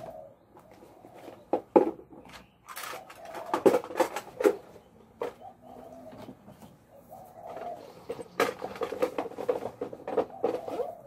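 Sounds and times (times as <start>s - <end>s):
plastic tubs clacking together: 1.1s - 6.5s, 7.5s - 11.0s.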